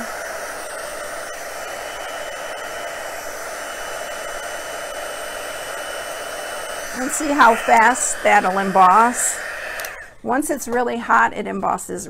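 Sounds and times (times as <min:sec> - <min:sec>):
heat tool blowing air: 0:00.0 - 0:10.2.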